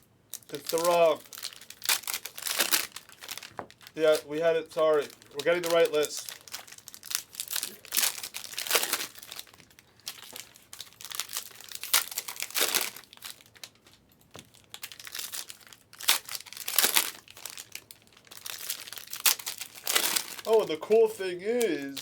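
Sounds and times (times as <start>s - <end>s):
plastic wrapping crinkling: 0.3s - 22.0s.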